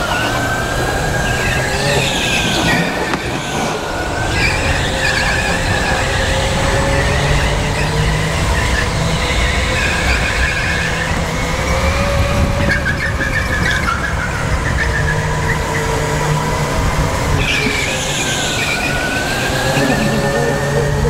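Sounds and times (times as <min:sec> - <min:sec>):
go-kart engine rumble: 0:00.0 - 0:21.0
tyres squealing: 0:00.0 - 0:21.0.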